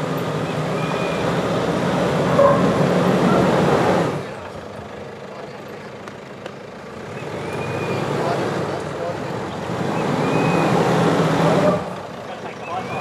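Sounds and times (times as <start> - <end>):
truck engine revving under load: 0.0 - 13.0.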